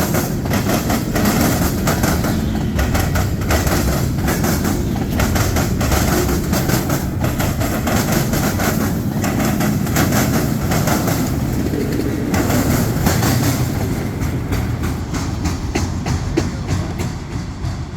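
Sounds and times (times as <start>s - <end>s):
low rumble of freight cars: 0.0s - 17.9s
train wheels clicking over rail joints: 0.0s - 17.9s.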